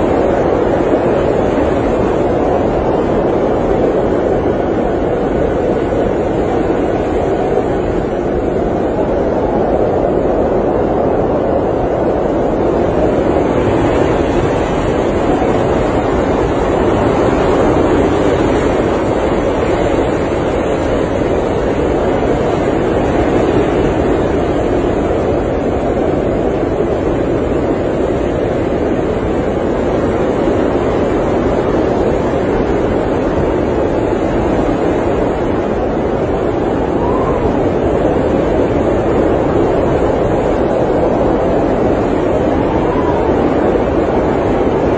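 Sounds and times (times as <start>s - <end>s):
blizzard wind rushing: 0.0s - 44.9s.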